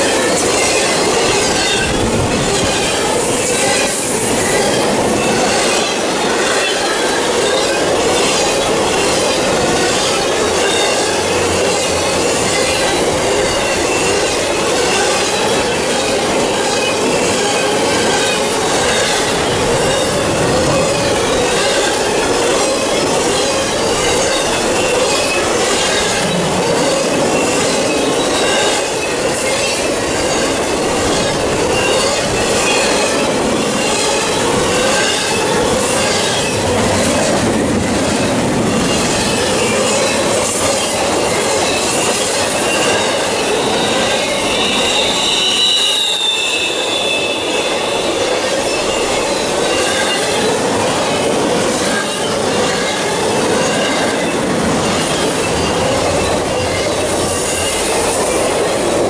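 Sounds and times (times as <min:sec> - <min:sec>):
freight train wheels rushing on rail: 0:00.0 - 0:59.0.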